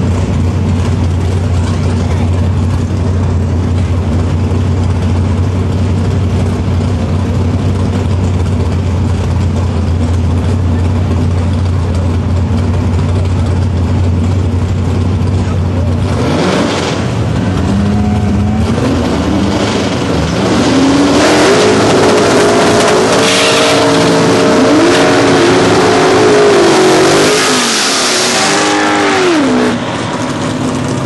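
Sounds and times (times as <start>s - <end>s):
car engine idling: 0.0s - 27.2s, 28.3s - 31.0s.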